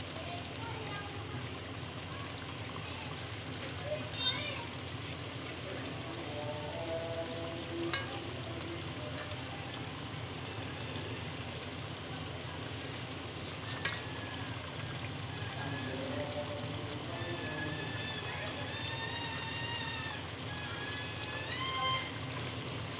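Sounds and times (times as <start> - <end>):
gravy sizzling in a pot: 0.0 - 22.9.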